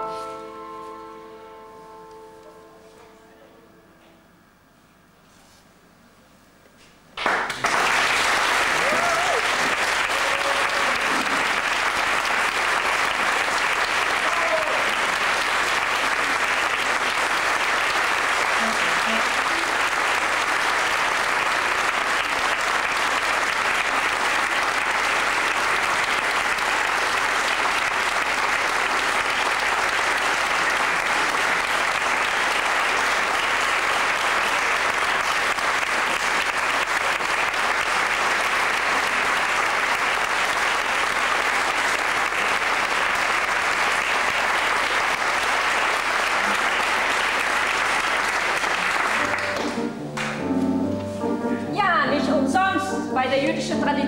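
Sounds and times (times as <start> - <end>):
audience applauding: 7.2 - 50.5.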